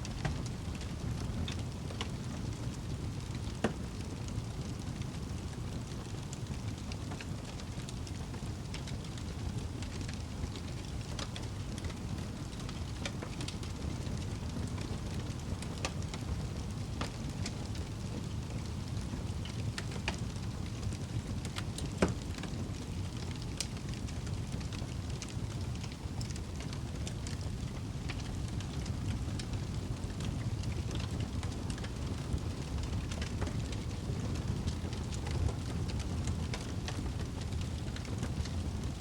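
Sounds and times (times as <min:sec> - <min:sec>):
fire crackling in fireplace: 0:00.0 - 0:39.0.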